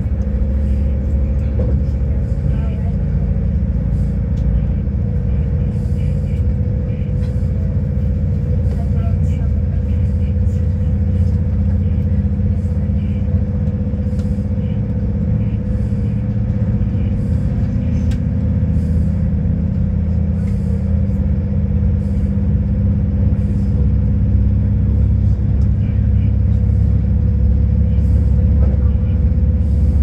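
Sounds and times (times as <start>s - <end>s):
steady hum: 0.0s - 30.0s
train rumble inside carriage: 0.0s - 30.0s.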